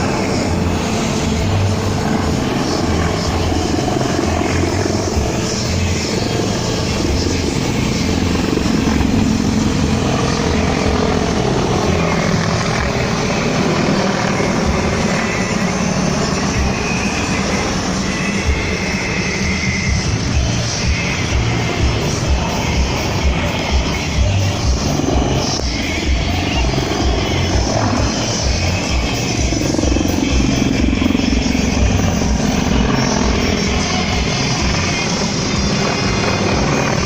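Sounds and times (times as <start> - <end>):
faint music: 0.0 - 37.0
helicopter rotor beat: 0.0 - 37.0.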